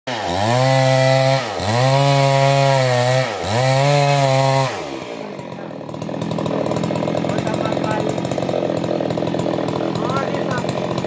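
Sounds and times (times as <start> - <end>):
chainsaw cutting log: 0.1 - 11.0.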